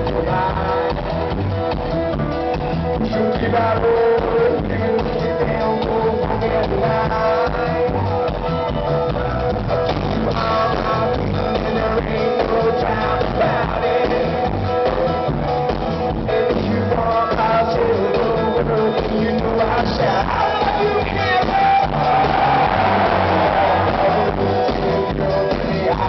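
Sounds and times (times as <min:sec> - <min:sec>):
drum kit: 0:00.0 - 0:26.0
live rock band playing: 0:00.0 - 0:26.0.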